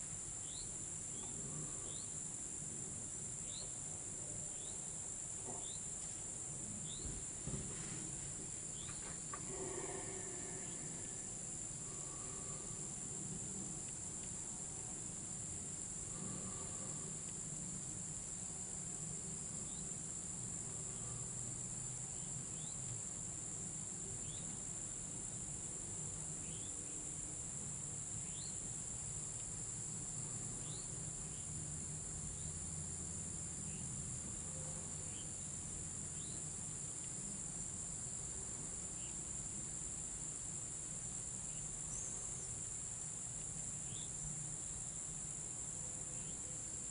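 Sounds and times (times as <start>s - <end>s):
crickets and insects chorus: 0.0s - 46.9s.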